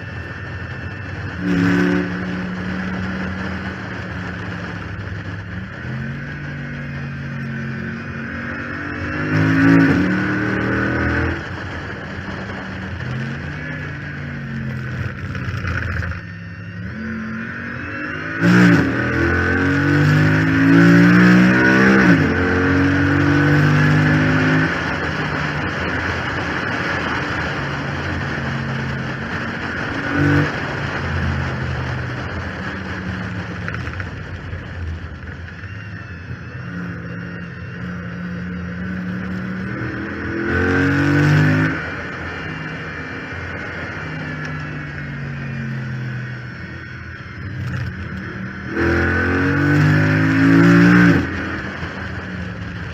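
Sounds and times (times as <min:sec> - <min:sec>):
car engine at full throttle: 0:00.0 - 0:52.9
high whine: 0:00.0 - 0:52.9.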